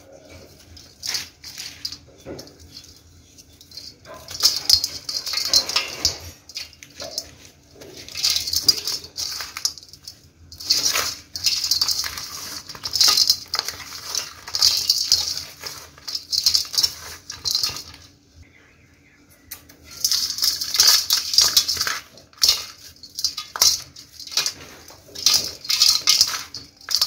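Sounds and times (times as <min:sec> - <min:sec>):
crumbs clicking on metal colander: 0:00.0 - 0:18.1, 0:19.5 - 0:27.0.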